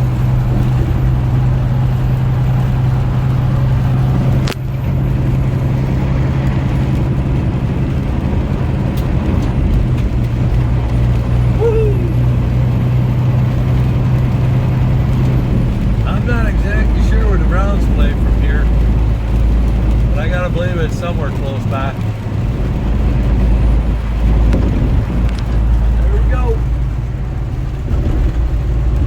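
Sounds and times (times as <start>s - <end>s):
truck engine hum and road noise: 0.0s - 29.0s.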